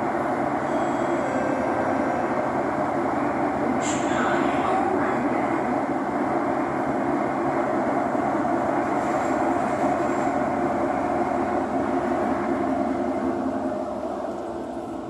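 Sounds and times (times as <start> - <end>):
metro train rumble and rail noise: 0.0 - 15.0.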